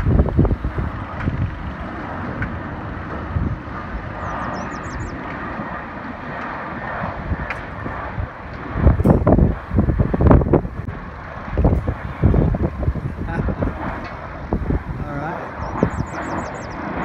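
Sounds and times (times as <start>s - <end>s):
distant jet airliner rush: 0.0s - 17.0s
wind buffeting microphone: 0.0s - 17.0s.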